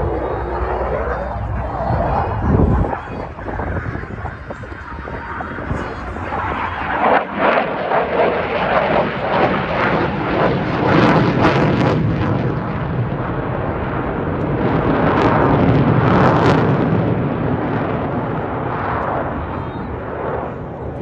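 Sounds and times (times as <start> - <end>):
loud crackling jet engine: 0.0 - 21.0.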